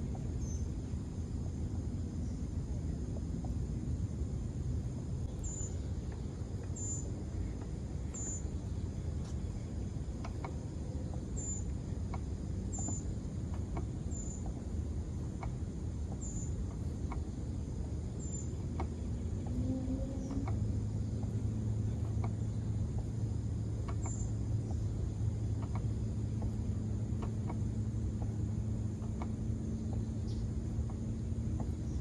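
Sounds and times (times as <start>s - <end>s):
steady low rumble: 0.0s - 32.0s
faint clicks: 5.2s - 32.0s.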